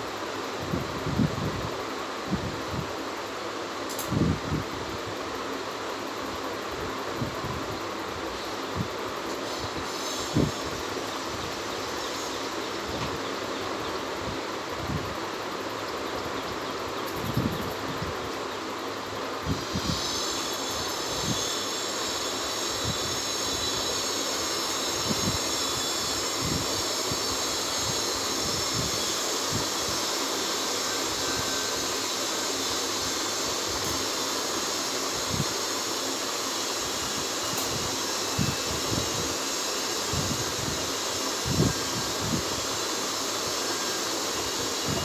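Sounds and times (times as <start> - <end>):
machine whir with high hiss: 0.0 - 45.0.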